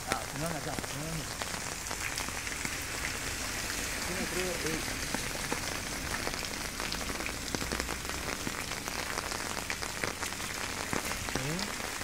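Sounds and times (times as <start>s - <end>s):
raindrops ticking close by: 0.0s - 12.0s
steady rain hiss: 0.0s - 12.0s.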